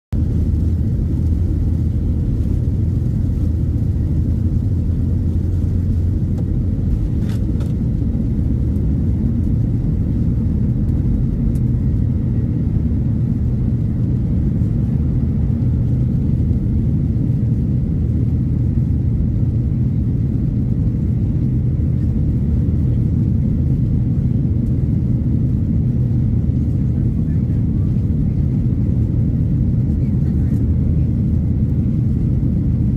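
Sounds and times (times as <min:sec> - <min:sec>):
jet engines rumbling in cabin: 0:00.1 - 0:32.9.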